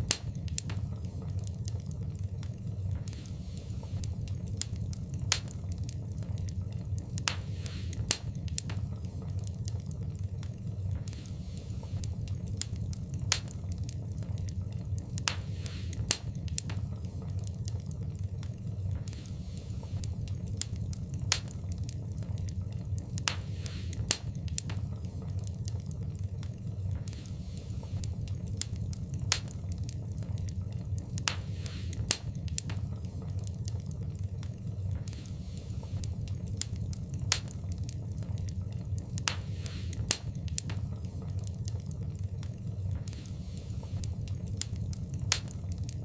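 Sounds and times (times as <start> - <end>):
fire crackles and pops: 0.0 - 46.0
wood fire rumbling: 0.0 - 46.0.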